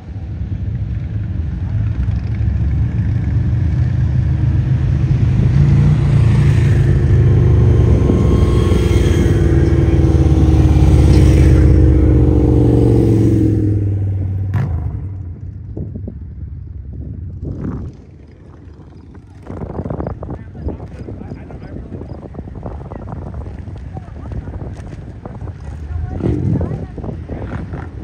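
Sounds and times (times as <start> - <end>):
motorcycle engine passing by: 2.1 - 15.6, 17.3 - 28.0.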